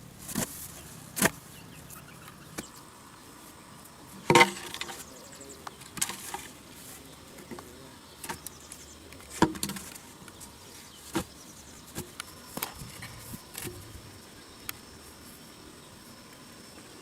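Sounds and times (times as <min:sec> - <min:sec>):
insect high-pitched buzz: 0:00.7 - 0:17.0.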